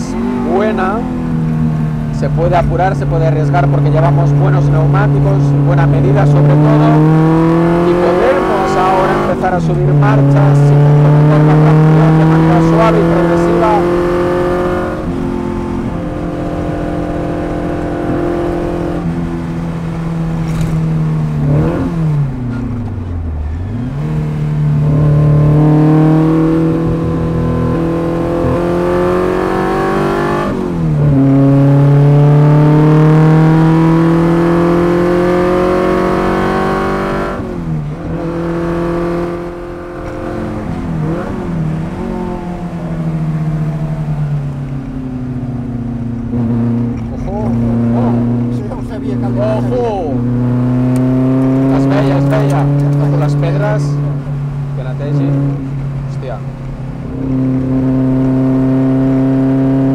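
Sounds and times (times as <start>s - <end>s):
car engine accelerating through gears: 0.0s - 59.9s.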